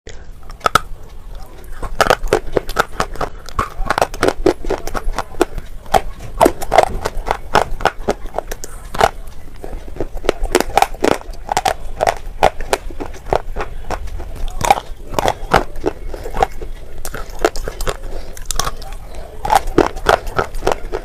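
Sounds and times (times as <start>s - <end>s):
crunching and chewing: 0.1s - 21.0s.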